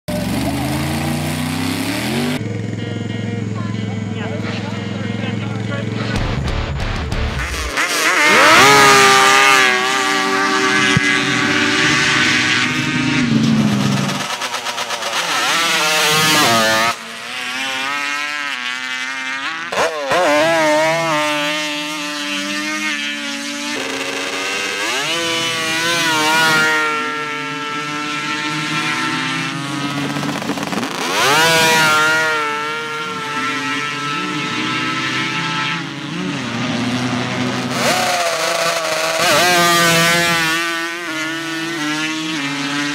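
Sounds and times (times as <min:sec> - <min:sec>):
atv engines at full throttle: 0:00.0 - 0:42.9.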